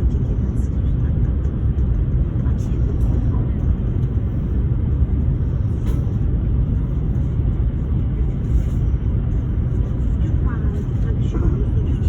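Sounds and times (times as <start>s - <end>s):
high-speed train rumbling: 0.0s - 12.0s.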